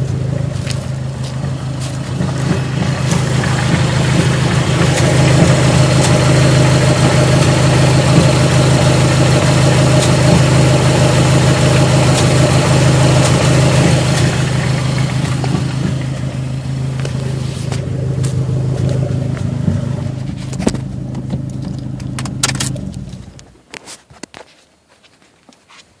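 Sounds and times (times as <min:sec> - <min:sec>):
car engine droning: 0:00.0 - 0:23.6.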